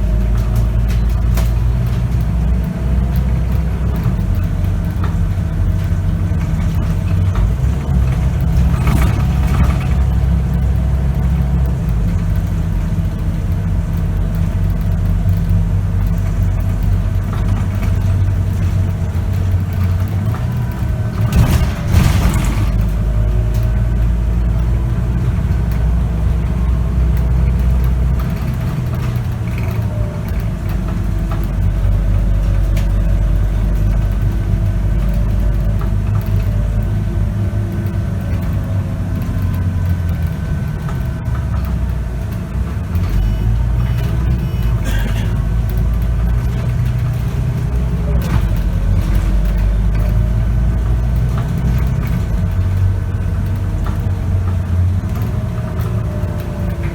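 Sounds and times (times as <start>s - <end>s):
bus engine drone: 0.0s - 56.9s.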